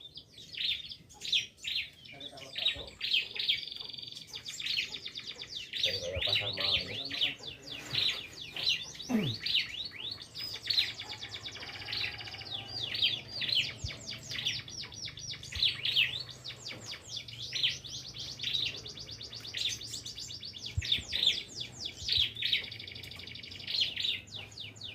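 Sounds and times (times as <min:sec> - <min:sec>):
bird singing high chirps and trills: 0:00.0 - 0:24.9.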